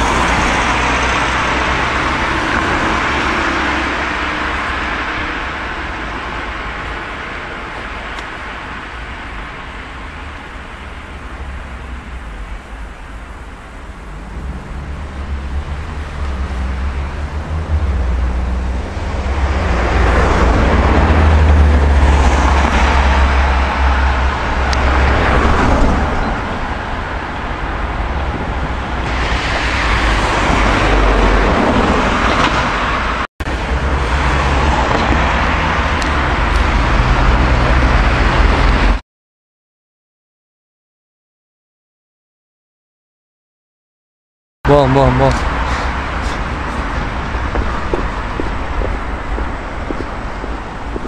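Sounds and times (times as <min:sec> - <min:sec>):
car engines passing: 0:00.0 - 0:39.0, 0:44.7 - 0:51.0
low traffic rumble: 0:00.0 - 0:39.0, 0:44.6 - 0:51.0.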